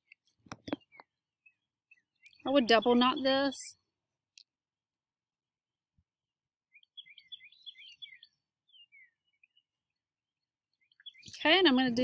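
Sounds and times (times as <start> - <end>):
songbird chirping faintly: 0.0 - 12.0.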